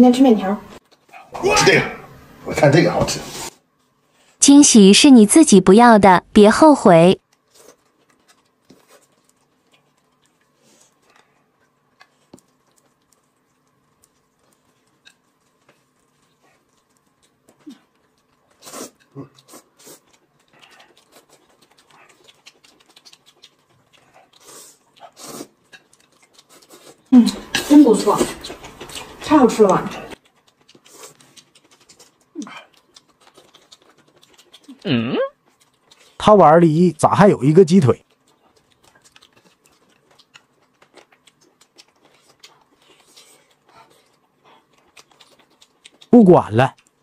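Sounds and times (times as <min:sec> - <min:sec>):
quiet chewing: 0:00.7 - 0:01.4, 0:07.2 - 0:36.2, 0:38.0 - 0:47.0.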